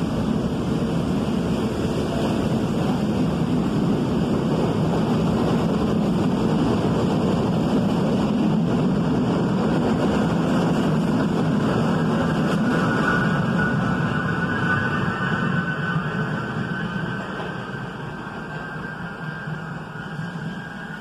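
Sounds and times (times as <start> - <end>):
subway train rumbling past: 0.0 - 21.0.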